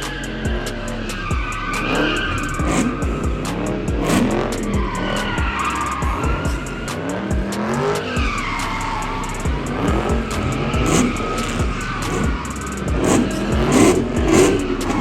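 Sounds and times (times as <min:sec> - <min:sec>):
background music with steady beat: 0:00.0 - 0:15.0
car tires squealing: 0:00.0 - 0:15.0
engine revving: 0:00.0 - 0:15.0.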